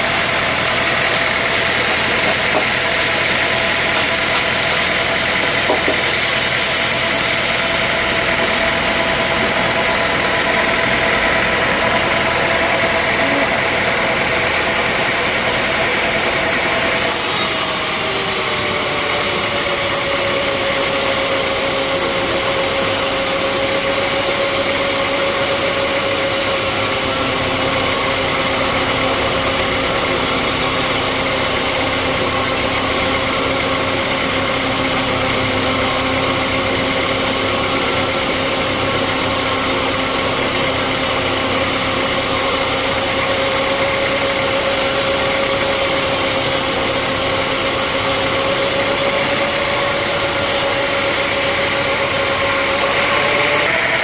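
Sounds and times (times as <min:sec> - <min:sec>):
machine whine: 0:00.0 - 0:54.0
sawmill motor hum: 0:00.0 - 0:54.0.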